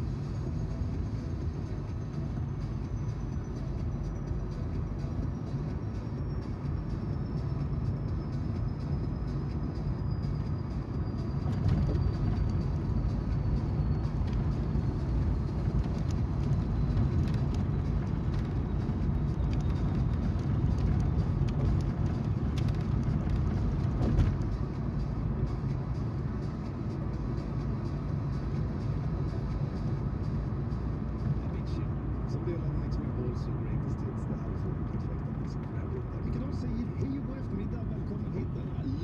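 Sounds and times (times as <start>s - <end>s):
car engine hum: 0.0s - 39.0s
tyres rolling on road: 0.0s - 39.0s.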